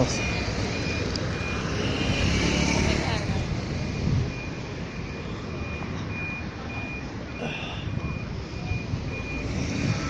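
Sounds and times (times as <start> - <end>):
electronic warning beeper: 0.0 - 2.7, 3.9 - 10.0
street traffic rumble: 0.0 - 10.0.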